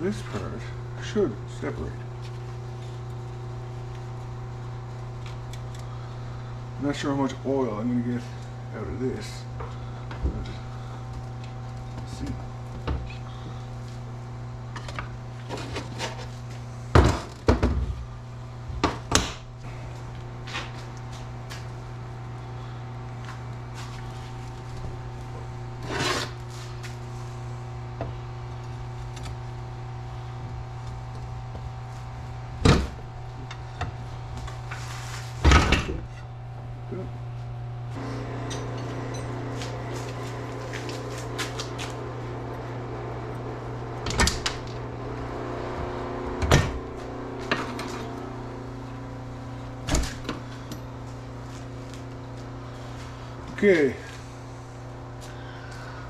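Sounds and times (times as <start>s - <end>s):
second steady hum: 0.0s - 56.0s
steady low hum: 0.0s - 56.0s.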